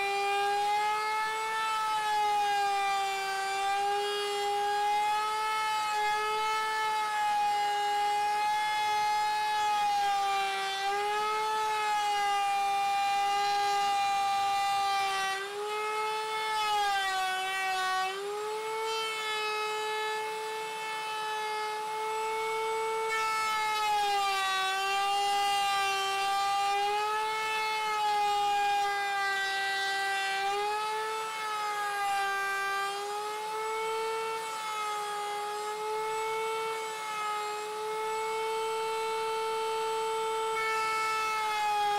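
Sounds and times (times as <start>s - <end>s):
router high whine: 0.0s - 41.9s.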